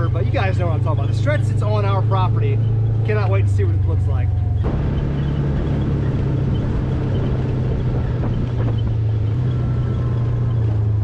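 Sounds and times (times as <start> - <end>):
buggy engine running steadily: 0.0 - 11.0.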